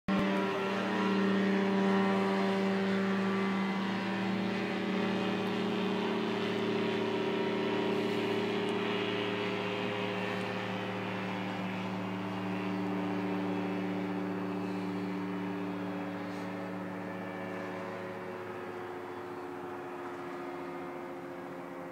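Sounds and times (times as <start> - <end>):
microlight engine droning overhead: 0.1 - 21.9.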